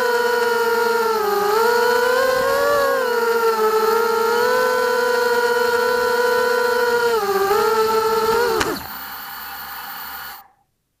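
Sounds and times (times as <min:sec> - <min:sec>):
drone motors whining: 0:00.0 - 0:10.6.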